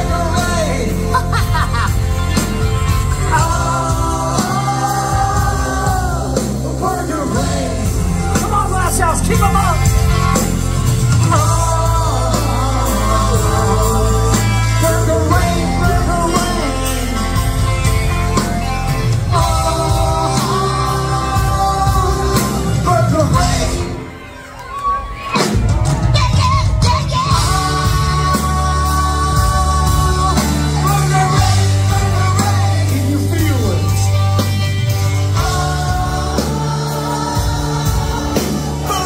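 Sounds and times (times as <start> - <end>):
live ska punk band: 0.0 - 24.4, 25.0 - 39.0.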